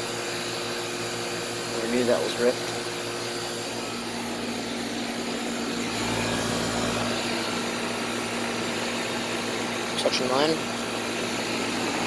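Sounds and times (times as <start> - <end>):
compressor hum: 0.0 - 12.0
condenser fan rushing: 0.0 - 12.0.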